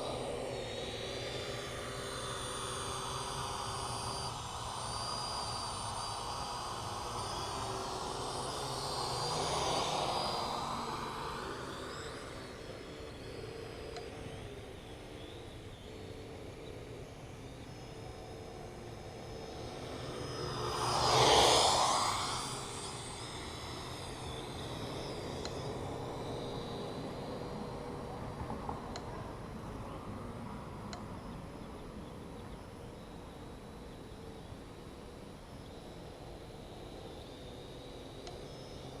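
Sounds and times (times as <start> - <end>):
quadcopter drone whine: 0.0 - 39.0.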